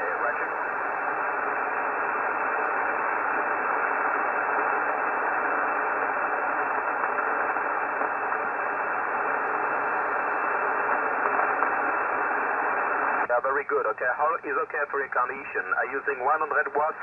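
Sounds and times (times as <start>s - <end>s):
shortwave radio hiss: 0.0s - 17.0s.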